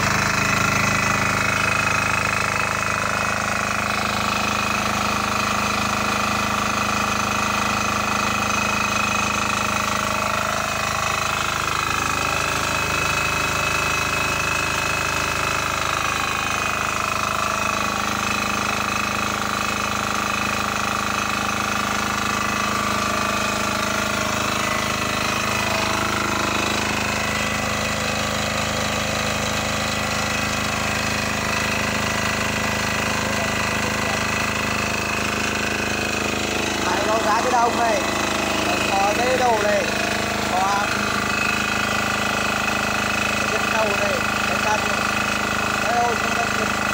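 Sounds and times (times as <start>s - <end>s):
diesel generator running: 0.0s - 46.9s.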